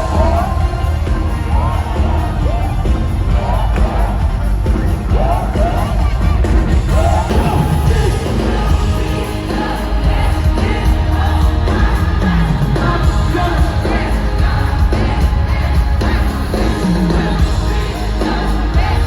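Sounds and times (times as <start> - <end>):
loud music with singing: 0.0 - 19.0.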